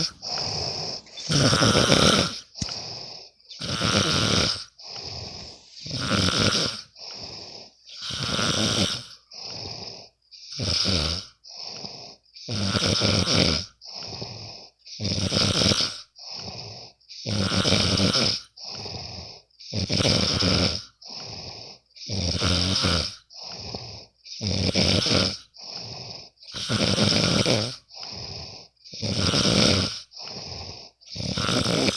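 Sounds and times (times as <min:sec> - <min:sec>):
person snoring: 0:00.0 - 0:31.9.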